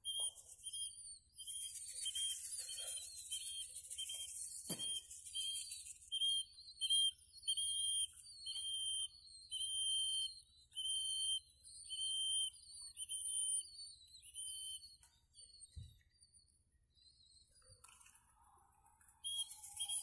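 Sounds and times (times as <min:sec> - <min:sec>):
high-pitched whistle toots: 0:00.0 - 0:18.5, 0:19.1 - 0:20.0.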